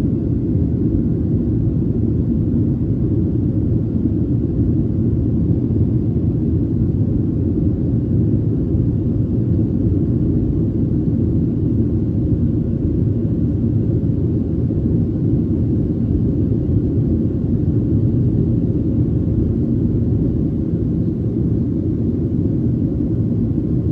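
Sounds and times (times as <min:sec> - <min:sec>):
jet engines at climb power: 0:00.0 - 0:23.9.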